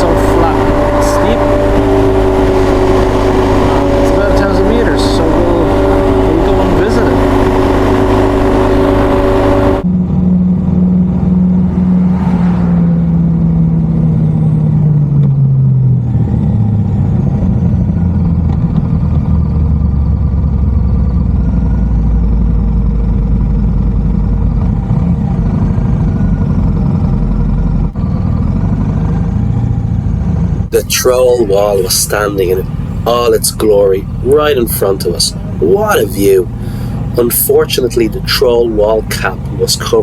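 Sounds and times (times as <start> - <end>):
motorcycle engine running: 0.0 - 12.1, 12.9 - 40.0.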